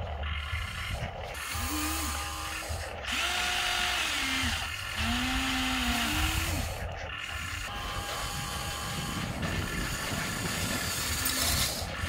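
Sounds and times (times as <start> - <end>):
steady low hum: 0.0 - 12.0
toy excavator motors whining: 0.0 - 12.0.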